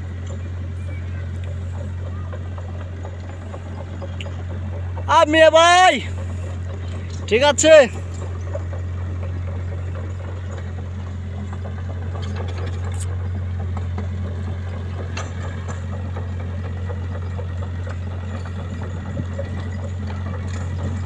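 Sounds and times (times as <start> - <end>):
machine engine humming: 0.0 - 21.0.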